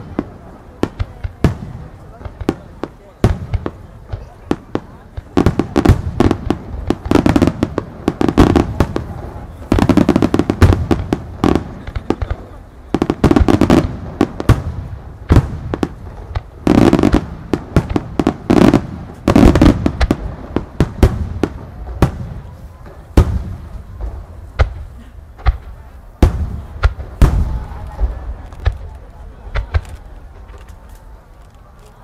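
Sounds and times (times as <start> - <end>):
firework bangs: 0.0 - 32.0.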